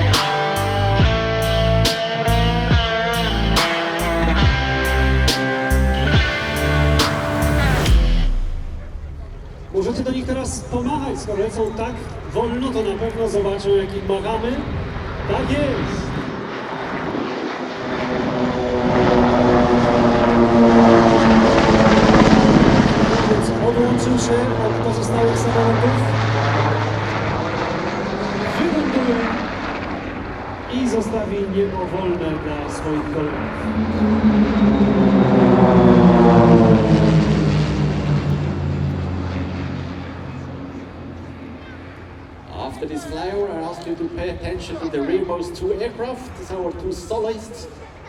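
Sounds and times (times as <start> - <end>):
propeller planes flying past: 0.0 - 48.0.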